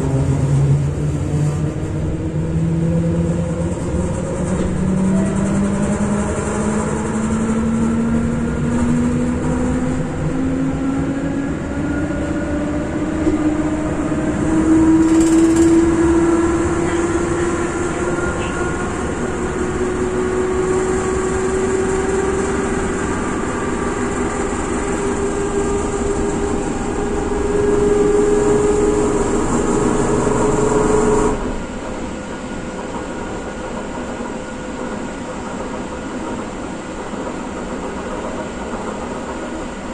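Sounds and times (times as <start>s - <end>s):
train rolling noise: 0.0s - 39.9s
train traction motor whine: 0.0s - 39.9s.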